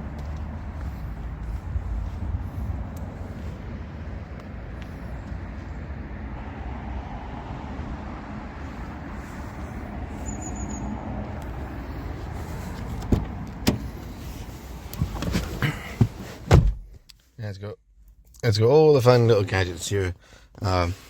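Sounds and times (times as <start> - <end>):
car and road noise rumble: 0.0 - 17.3, 18.0 - 21.0.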